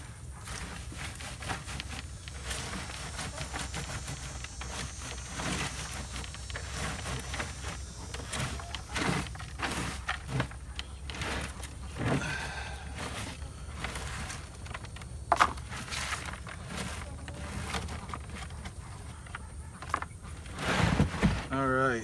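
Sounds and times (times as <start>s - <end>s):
compost scraping through screen: 0.0s - 22.0s.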